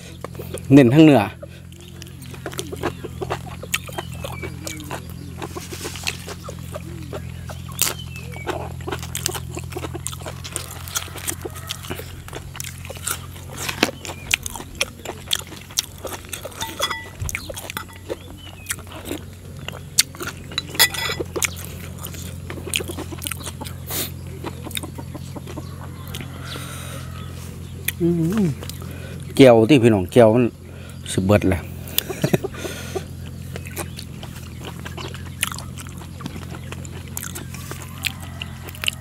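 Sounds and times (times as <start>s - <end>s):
steady low hum: 0.0s - 39.0s
chewing and mouth smacks: 1.5s - 26.3s, 27.6s - 29.4s, 31.9s - 39.0s.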